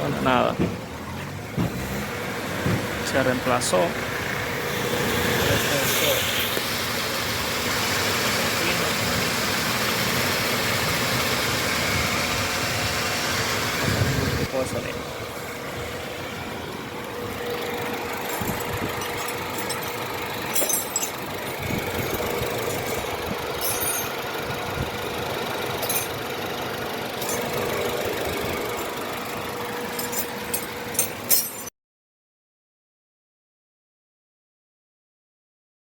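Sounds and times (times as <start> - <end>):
car engine idling: 0.0 - 31.6.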